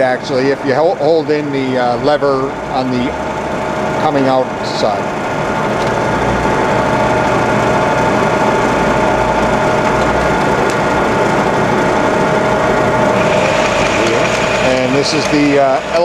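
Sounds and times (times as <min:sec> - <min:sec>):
milling machine whirring: 0:00.0 - 0:16.0.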